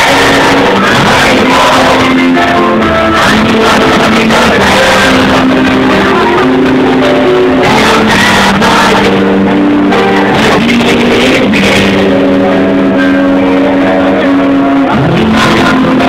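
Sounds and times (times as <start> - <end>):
guitars with held notes: 0.0 - 16.0
live band playing: 0.0 - 16.0.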